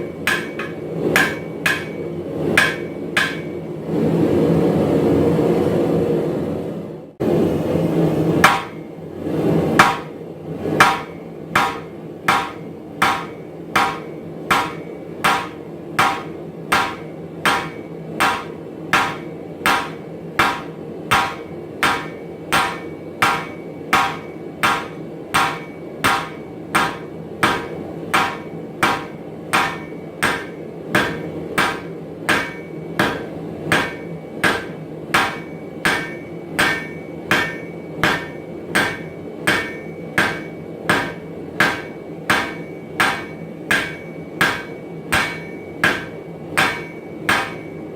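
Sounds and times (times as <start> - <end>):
hammer striking metal on anvil: 0.0 - 3.7, 8.4 - 8.9, 9.8 - 10.2, 10.8 - 47.9.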